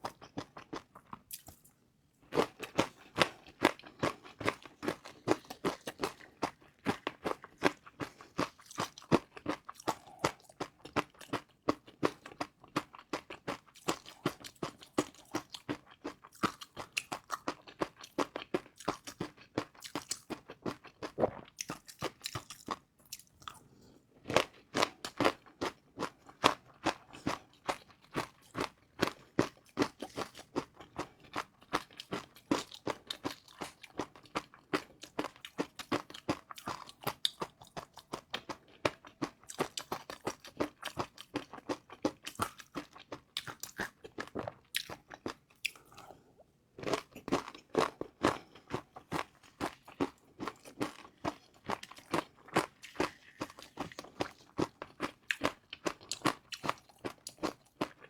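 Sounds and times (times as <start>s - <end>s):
crunching fried noodles: 2.3s - 46.1s, 46.8s - 58.0s.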